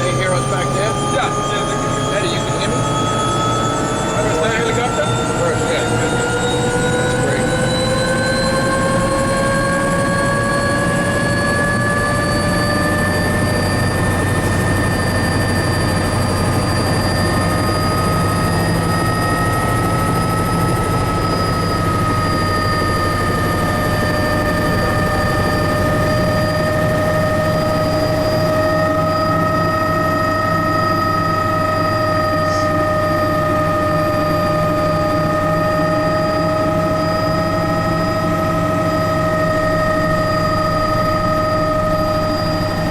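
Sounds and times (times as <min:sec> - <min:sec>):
helicopter rotor drone: 0:00.0 - 0:42.9
helicopter turbine whine: 0:00.0 - 0:42.9.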